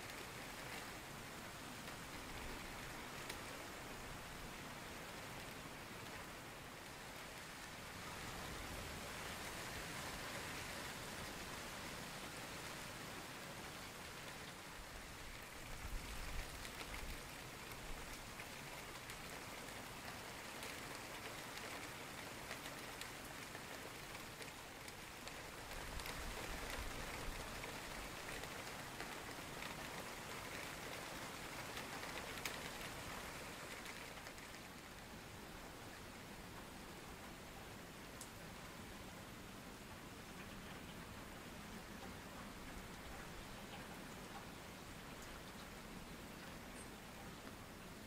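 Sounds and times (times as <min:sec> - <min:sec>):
heavy rain on foliage and water: 0:00.0 - 0:48.0.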